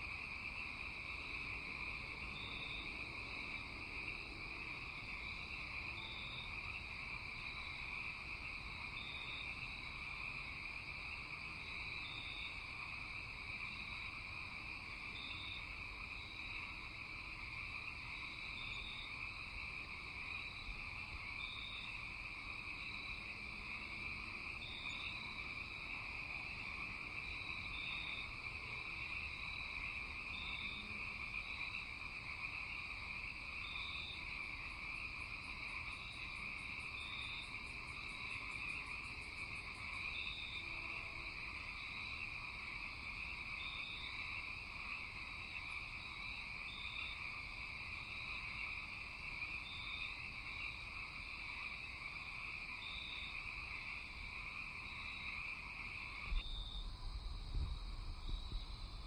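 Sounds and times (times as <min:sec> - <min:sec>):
frogs and insects trilling: 0:00.0 - 0:59.0.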